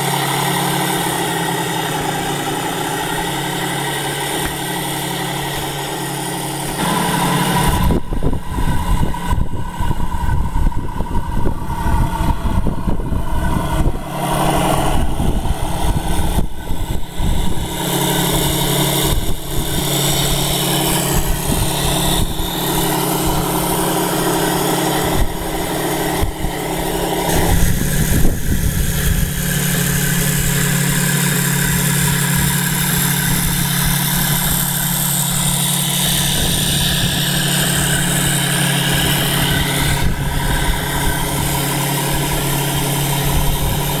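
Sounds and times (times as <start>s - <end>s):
model tank motor hum: 0.0s - 44.0s.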